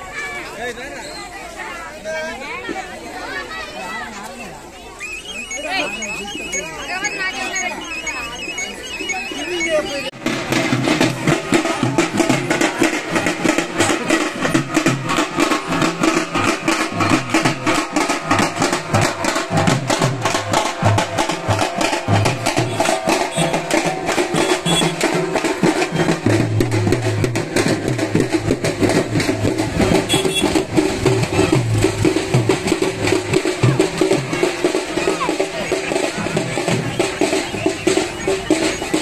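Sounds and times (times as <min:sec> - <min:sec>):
fast steady drumming: 0:05.0 - 0:39.0.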